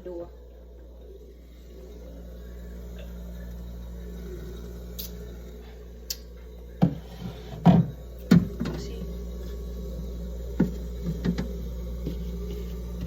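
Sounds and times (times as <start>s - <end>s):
fridge humming: 0.0s - 13.0s.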